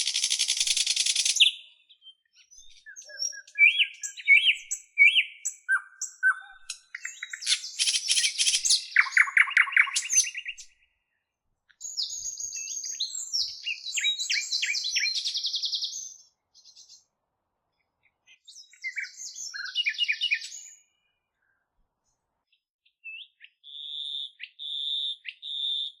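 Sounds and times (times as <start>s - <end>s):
songbird chirping and trilling: 0.0s - 17.1s, 17.7s - 21.7s, 22.4s - 26.0s.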